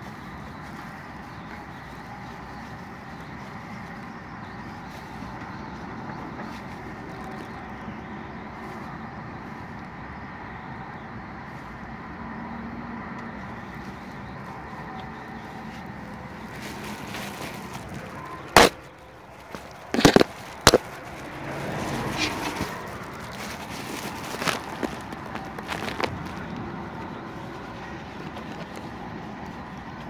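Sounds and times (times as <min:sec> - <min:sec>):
car engine hum: 0:00.0 - 0:30.0.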